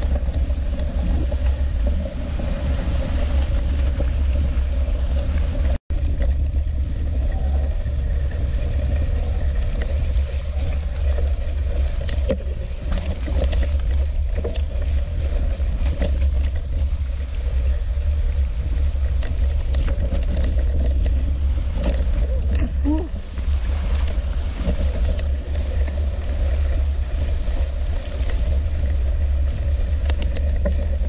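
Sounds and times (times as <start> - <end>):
wind on camera microphone: 0.0 - 31.0.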